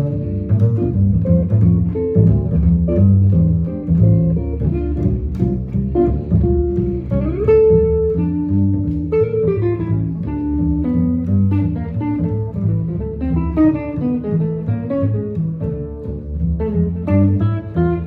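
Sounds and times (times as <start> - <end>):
jazz guitar line: 0.0 - 18.0
plucked bass line: 0.0 - 18.0.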